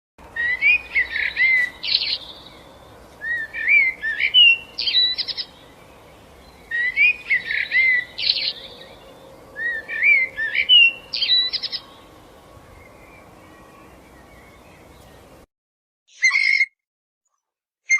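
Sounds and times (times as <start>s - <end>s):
songbird singing: 0.2s - 15.5s, 16.1s - 16.7s.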